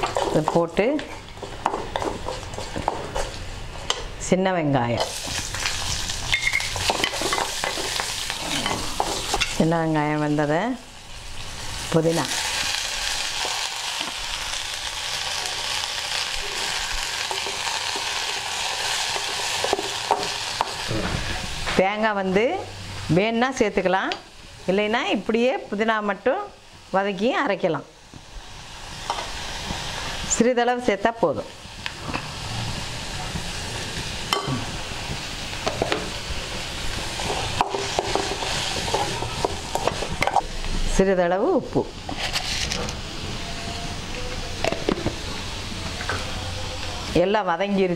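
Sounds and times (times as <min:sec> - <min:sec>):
leaves sizzling in hot oil: 0:04.8 - 0:47.9.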